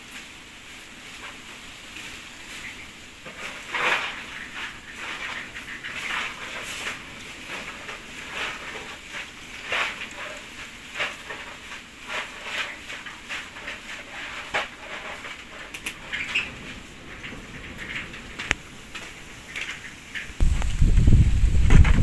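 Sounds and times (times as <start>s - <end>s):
broom sweeping dirt floor: 0.0s - 17.0s, 18.8s - 22.0s.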